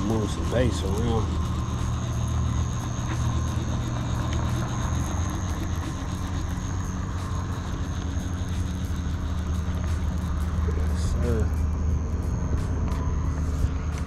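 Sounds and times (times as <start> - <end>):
high-pitched whine: 0.0 - 14.0
low even hum: 0.0 - 14.0.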